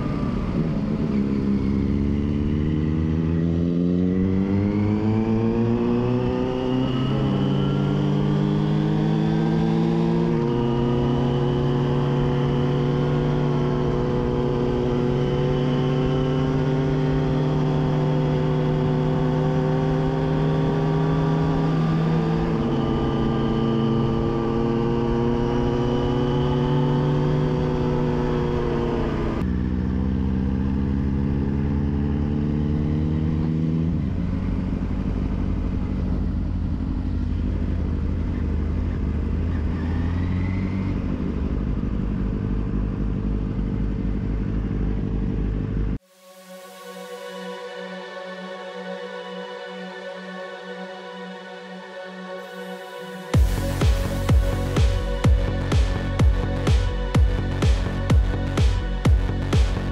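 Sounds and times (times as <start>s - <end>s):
motorcycle engine running: 0.0s - 46.0s, 53.3s - 59.9s.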